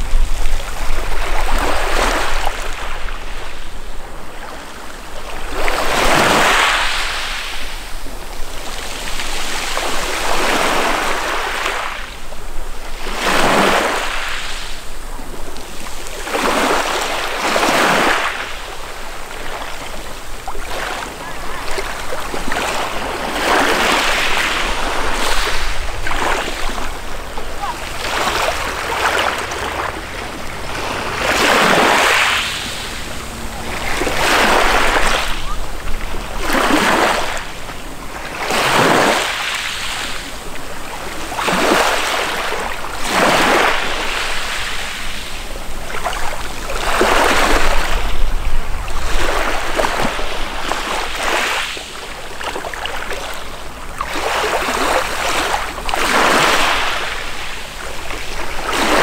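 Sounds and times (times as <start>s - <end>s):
waves breaking on pebble shore: 0.0s - 59.0s.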